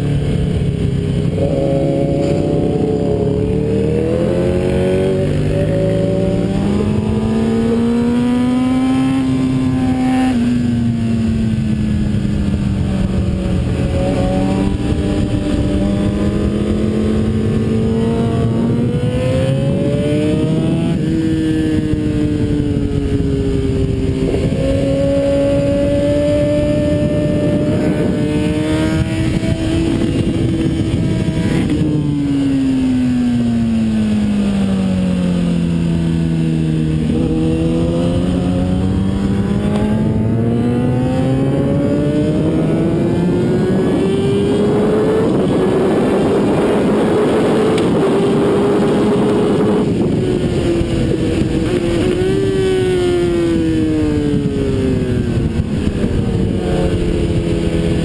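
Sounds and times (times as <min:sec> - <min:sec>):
wind rushing: 0:00.0 - 0:33.8, 0:36.0 - 0:58.0
motorcycle engine revving: 0:00.0 - 0:58.0.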